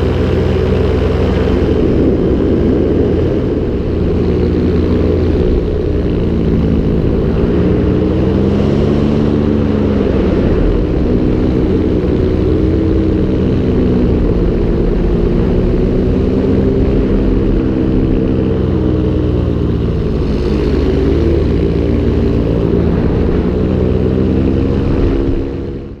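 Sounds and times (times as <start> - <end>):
propeller engine running: 0.0 - 26.0
rushing air: 0.0 - 26.0.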